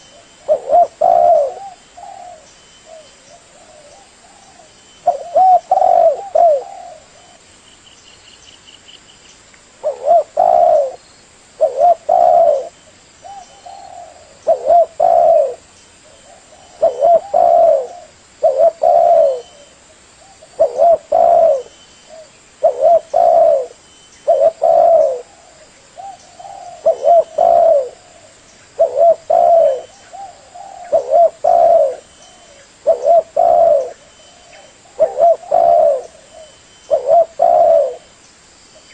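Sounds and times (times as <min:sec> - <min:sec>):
dove cooing: 0:00.0 - 0:07.4, 0:09.8 - 0:11.0, 0:11.6 - 0:38.2.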